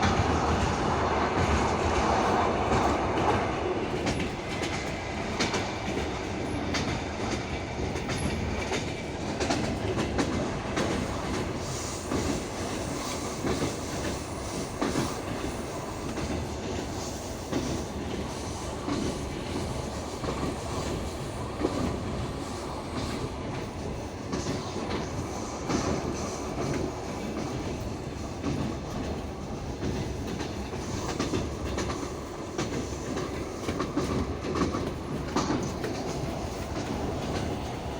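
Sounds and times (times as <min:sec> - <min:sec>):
train rumble: 0:00.0 - 0:37.9
train wheels clickety-clack: 0:00.0 - 0:37.9.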